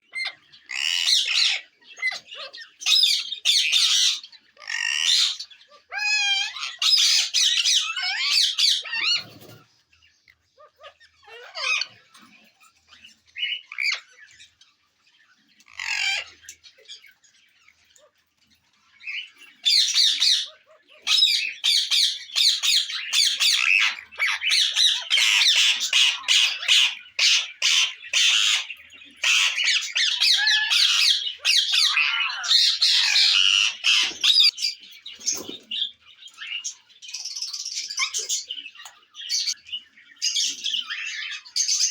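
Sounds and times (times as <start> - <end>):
parakeets squawking: 0.0 - 41.9.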